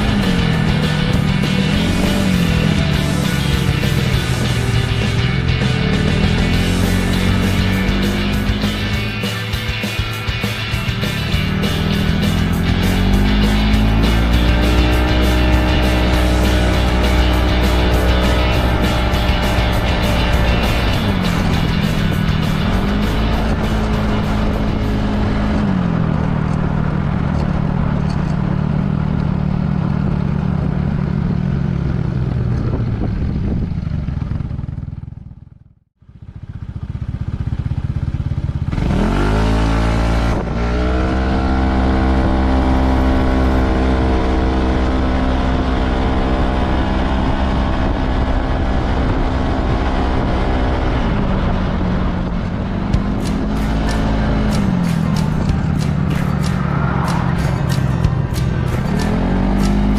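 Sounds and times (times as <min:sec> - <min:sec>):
road and wind noise: 0:00.0 - 0:59.9
scooter engine running: 0:00.0 - 0:59.9.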